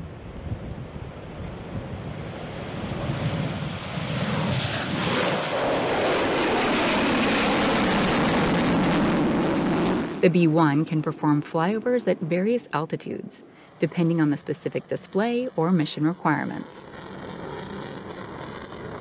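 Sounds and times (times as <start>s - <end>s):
jet bomber roaring past: 0.0s - 12.8s, 13.4s - 19.0s.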